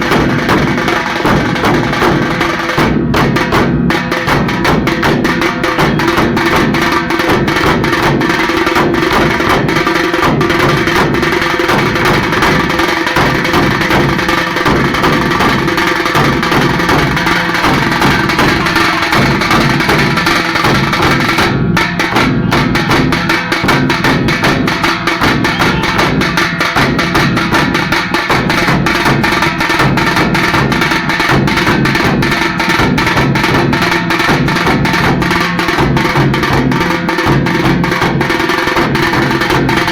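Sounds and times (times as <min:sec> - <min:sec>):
frame drums beaten with sticks: 0:00.0 - 0:39.9.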